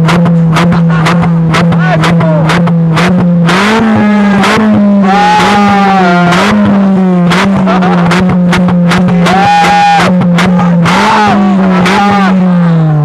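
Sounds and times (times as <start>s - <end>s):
car engine idling with throttle blips: 0.0s - 13.0s
exhaust pops and crackles: 0.0s - 13.0s.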